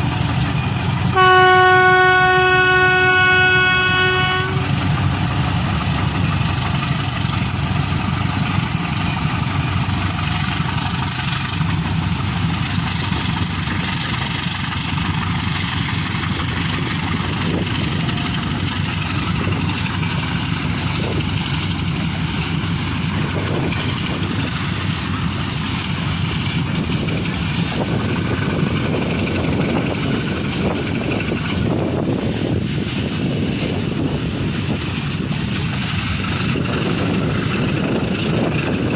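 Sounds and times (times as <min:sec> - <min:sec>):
locomotive diesel engines droning: 0:00.0 - 0:38.9.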